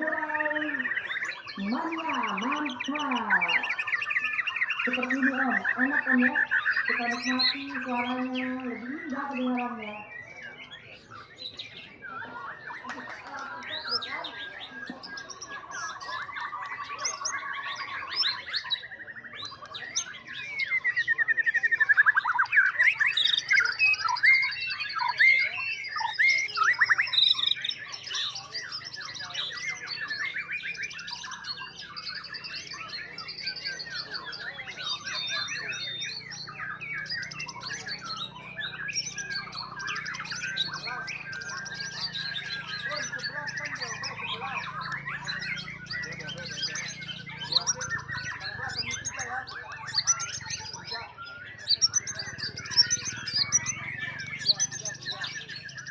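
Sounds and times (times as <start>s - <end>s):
birds singing: 0.0s - 55.9s.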